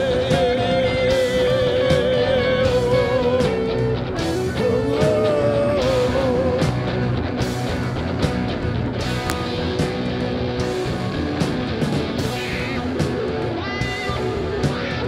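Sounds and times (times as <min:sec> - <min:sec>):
bass guitar: 0:00.0 - 0:15.0.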